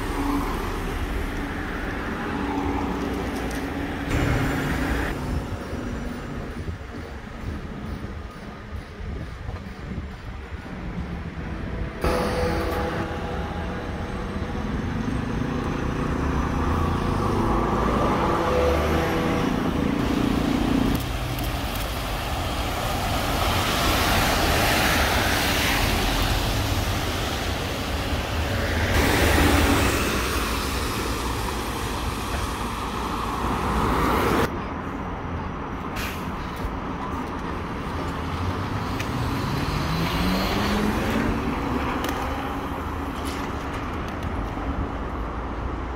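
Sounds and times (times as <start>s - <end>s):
road noise of passing vehicle: 0.0s - 45.9s
trolleybuses in street traffic: 0.0s - 45.9s.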